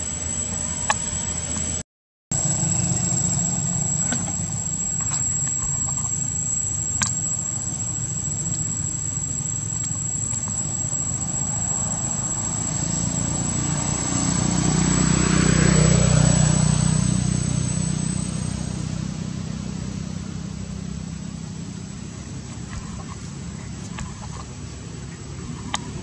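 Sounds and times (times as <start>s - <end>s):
high-pitched whine: 0.0s - 26.0s
vehicle engine running: 0.0s - 26.0s.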